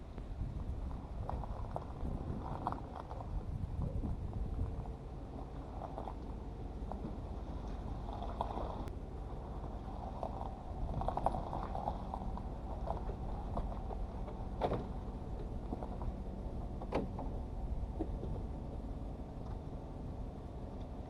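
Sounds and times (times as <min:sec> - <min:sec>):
pickup engine running: 0:00.0 - 0:21.0.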